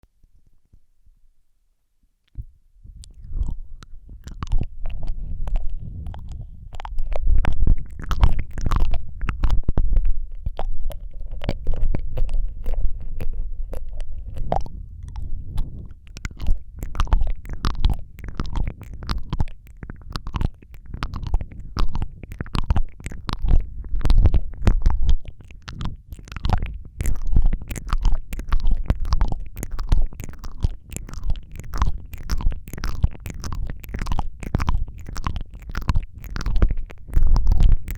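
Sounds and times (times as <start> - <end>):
wet lip and tongue clicks: 2.2 - 37.9.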